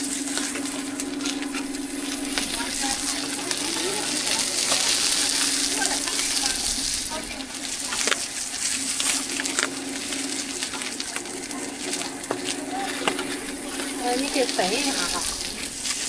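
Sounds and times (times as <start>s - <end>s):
food sizzling in hot oil: 0.0s - 16.0s
low hum: 0.0s - 16.0s.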